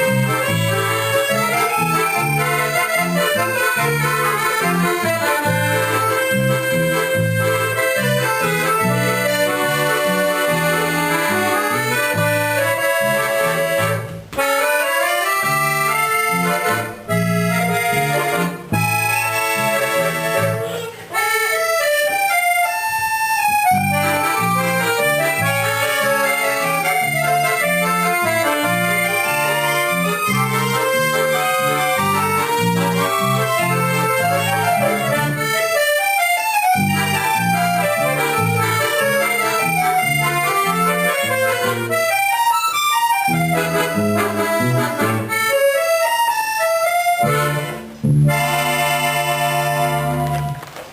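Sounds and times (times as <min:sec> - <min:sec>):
accordions playing melody: 0:00.0 - 0:50.9.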